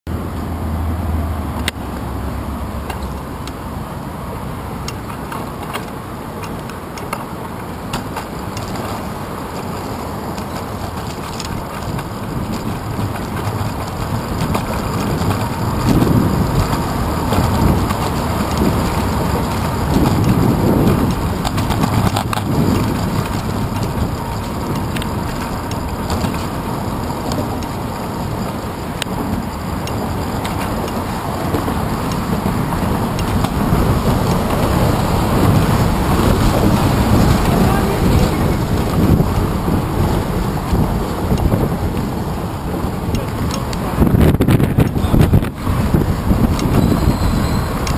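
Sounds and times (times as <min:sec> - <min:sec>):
bike rattles and clicks: 0:01.4 - 0:47.9
wind buffeting a camera: 0:02.7 - 0:47.9.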